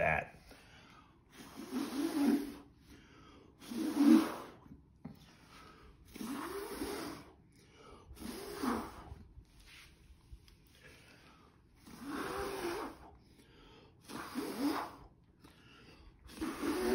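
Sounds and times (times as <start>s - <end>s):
person blowing forceful breaths: 0.4s - 9.9s, 10.6s - 16.9s.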